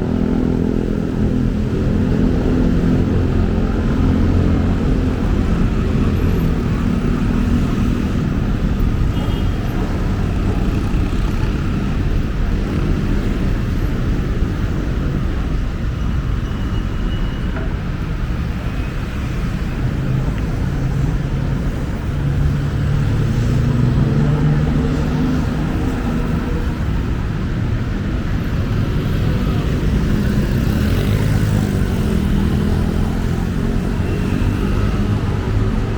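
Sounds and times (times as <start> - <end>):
road traffic rumble: 0.0 - 35.9.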